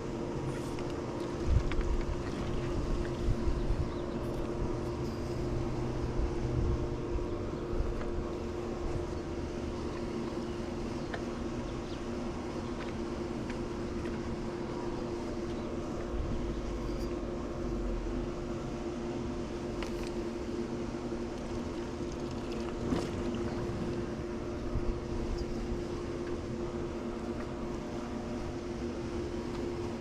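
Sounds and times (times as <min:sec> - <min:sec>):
pool pump motor humming: 0:00.0 - 0:30.0.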